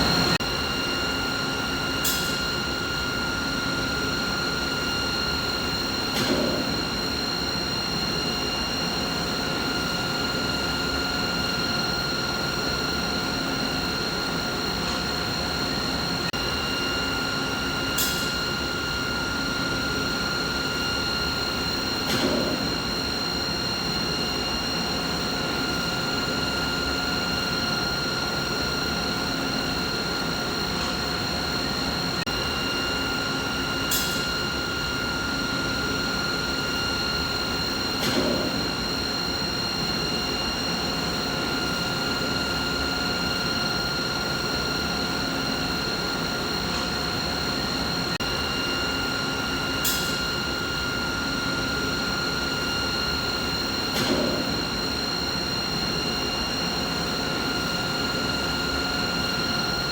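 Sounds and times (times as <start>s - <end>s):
machine hum with high tones: 0.0s - 59.9s.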